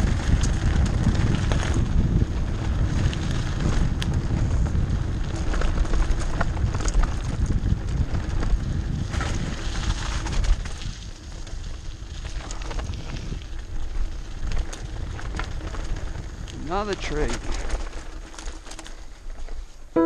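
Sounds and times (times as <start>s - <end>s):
wind buffeting microphone: 0.0s - 17.0s
bike clicks and rattles: 0.0s - 20.0s.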